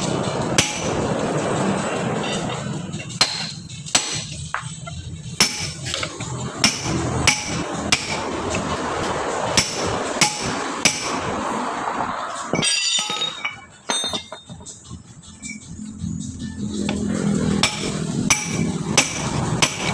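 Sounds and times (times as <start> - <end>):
hammer striking metal wheel: 0.0 - 1.6, 2.2 - 11.5, 12.4 - 16.0, 16.6 - 19.9.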